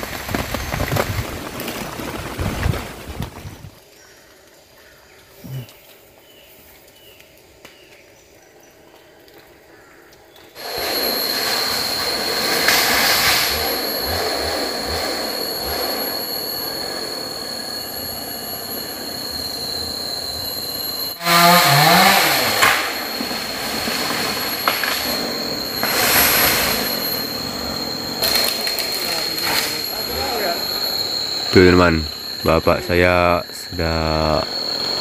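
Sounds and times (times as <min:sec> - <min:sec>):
cicadas buzzing: 0:00.0 - 0:35.0.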